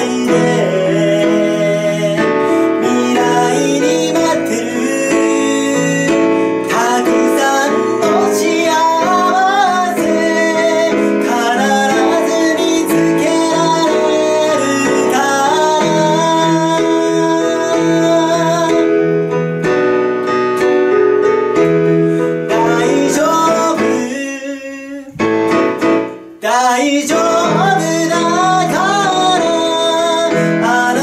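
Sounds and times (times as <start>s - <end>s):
man singing a slow ballad: 0.0s - 19.3s, 22.2s - 25.4s, 26.4s - 31.0s
piano accompaniment: 0.0s - 31.0s.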